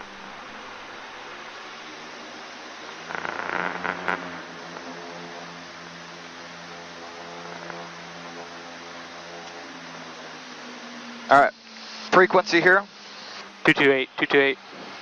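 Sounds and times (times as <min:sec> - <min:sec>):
turboprop cockpit hum: 0:00.0 - 0:15.0.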